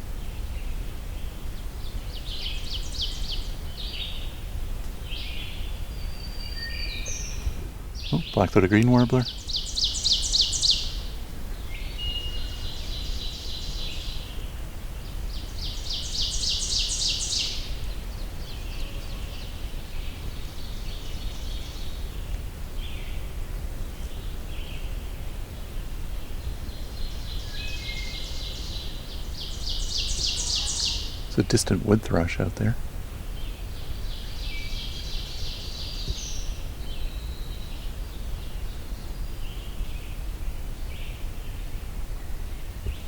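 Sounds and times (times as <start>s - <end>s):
low background noise: 0.0s - 43.0s
other birds singing faintly: 0.0s - 43.0s
warbler singing high song: 0.2s - 31.6s, 33.2s - 43.0s.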